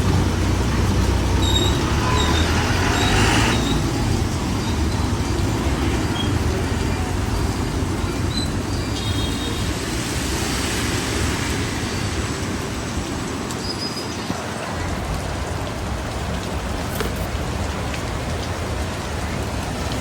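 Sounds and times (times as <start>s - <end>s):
heavy rain: 0.0s - 20.0s
road traffic: 0.0s - 20.0s.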